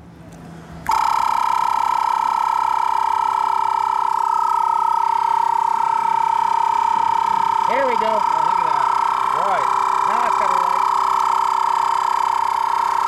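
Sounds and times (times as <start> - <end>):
tire inflator whining: 0.4 - 13.0.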